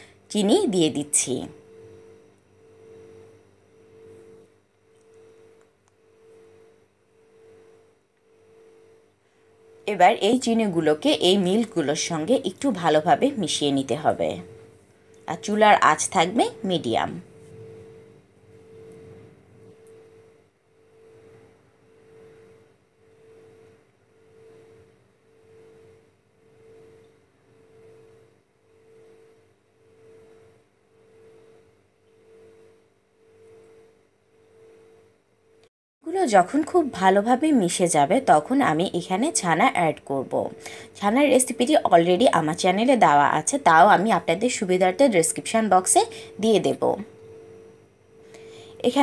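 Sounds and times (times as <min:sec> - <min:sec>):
faint pulsing hum: 0:00.0 - 0:49.0.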